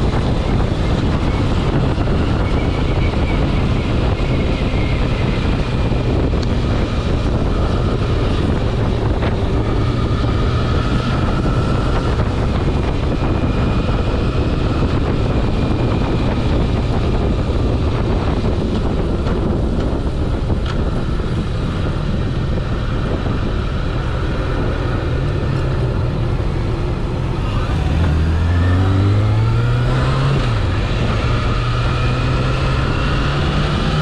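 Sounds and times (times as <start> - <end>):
motorcycle engine running: 0.0 - 34.0
wind rush on microphone: 0.0 - 34.0.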